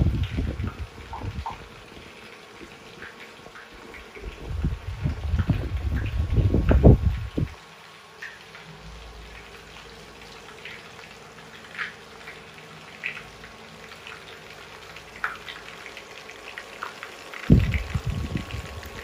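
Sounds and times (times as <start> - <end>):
meatballs sizzling in oil: 0.0 - 19.0.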